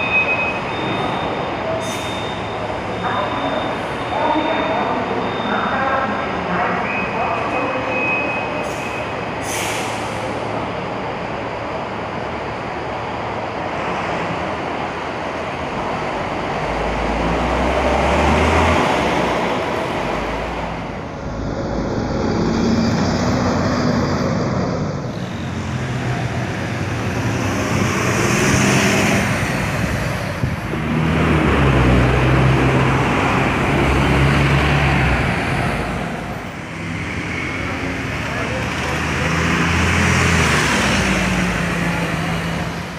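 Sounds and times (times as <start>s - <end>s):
bus engines passing: 0.0s - 42.9s.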